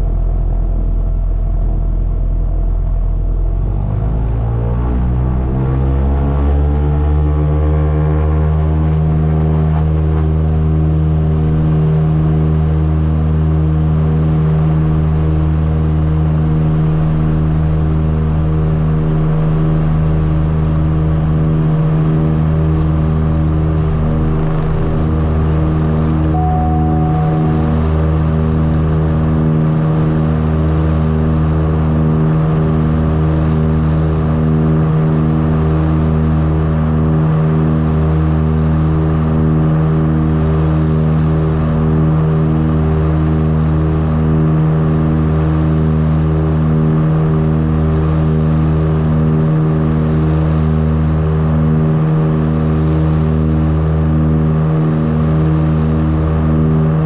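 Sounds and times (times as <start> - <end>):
aircraft engines droning: 0.0 - 57.0.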